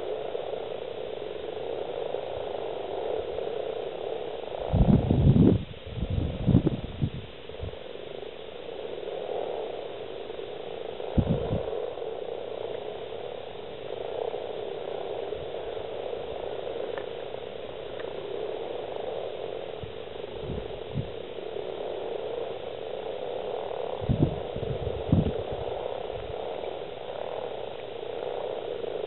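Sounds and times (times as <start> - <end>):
frogs croaking in chorus: 0.0 - 29.0.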